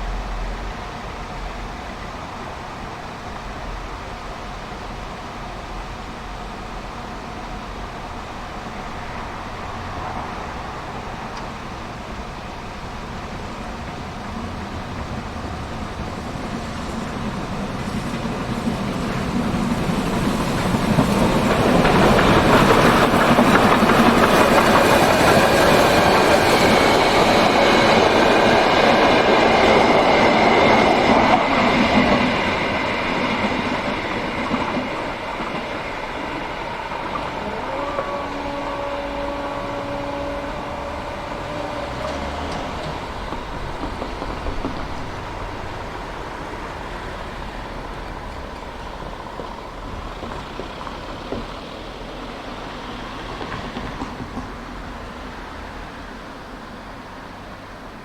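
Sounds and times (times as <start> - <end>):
train passing close by: 0.0 - 58.0.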